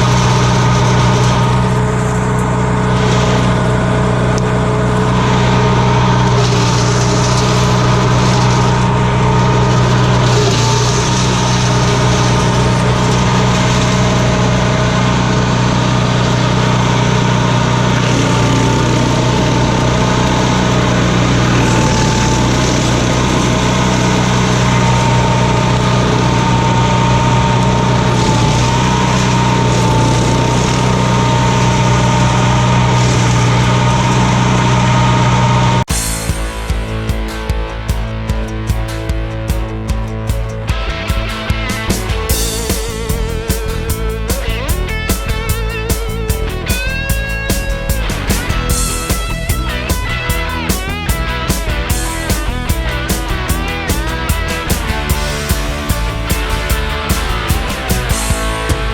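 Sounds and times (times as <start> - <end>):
small engine running: 0.0 - 58.9
steady whine: 0.0 - 58.9.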